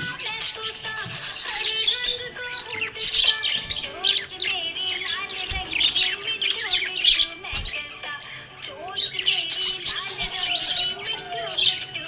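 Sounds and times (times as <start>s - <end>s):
budgerigars chirping and warbling: 0.0s - 12.0s.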